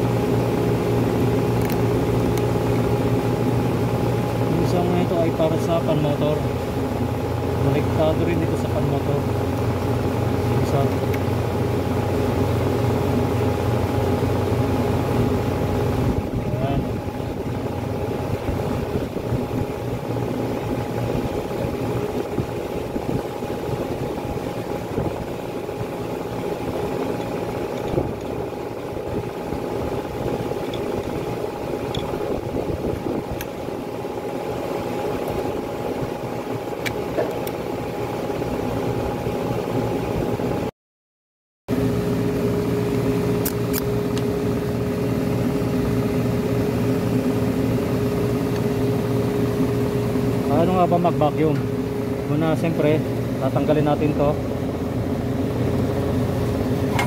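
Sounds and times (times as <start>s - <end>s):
steady motor drone: 0.0s - 40.7s, 41.7s - 57.0s.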